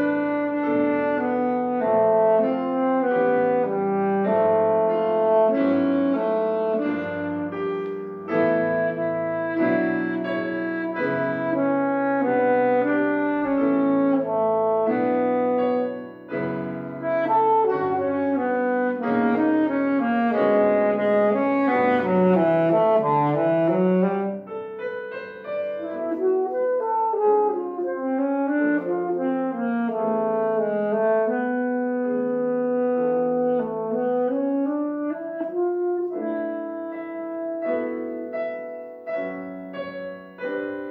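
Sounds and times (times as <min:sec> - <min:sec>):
piano accompaniment: 0:00.0 - 0:40.9
saxophone melody: 0:00.0 - 0:40.9.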